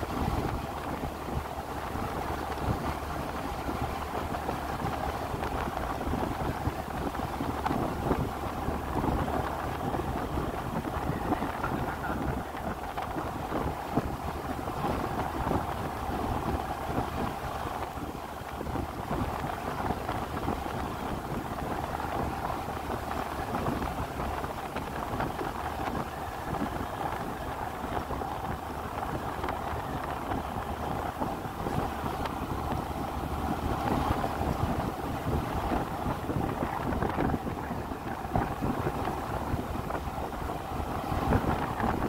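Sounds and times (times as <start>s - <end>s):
vehicle driving on road: 0.0s - 42.0s
wind rushing over microphone: 0.0s - 42.0s.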